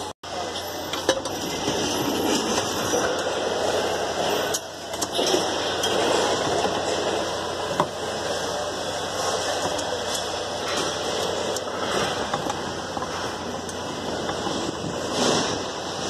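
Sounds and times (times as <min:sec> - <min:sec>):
steady rushing background noise: 0:00.0 - 0:16.0.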